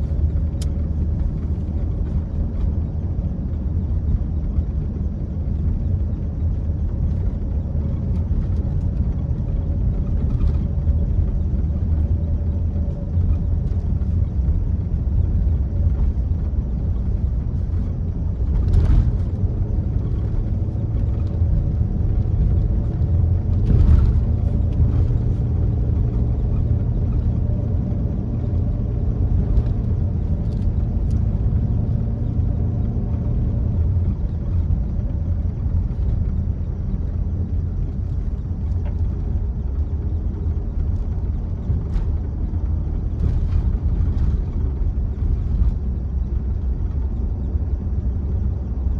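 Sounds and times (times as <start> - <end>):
car tyre and engine rumble: 0.0 - 48.9.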